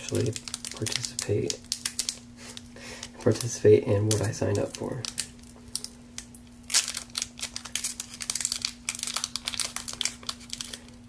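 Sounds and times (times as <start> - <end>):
plastic wrapper crackling: 0.0 - 11.0.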